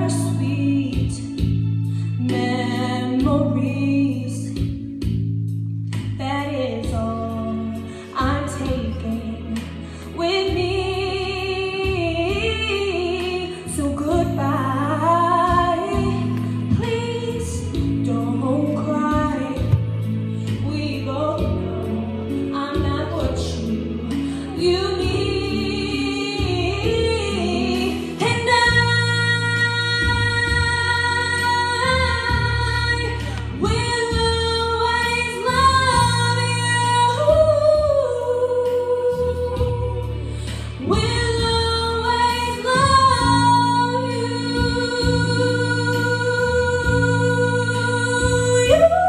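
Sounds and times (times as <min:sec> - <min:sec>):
woman singing into microphone: 0:00.0 - 0:04.8, 0:06.0 - 0:49.0
musical accompaniment: 0:00.0 - 0:49.0.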